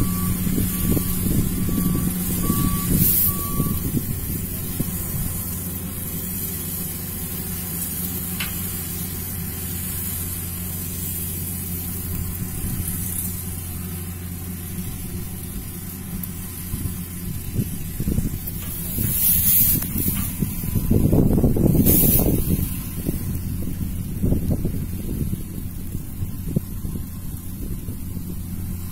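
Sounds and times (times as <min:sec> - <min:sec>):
combine harvester engine hum: 0:00.0 - 0:28.9.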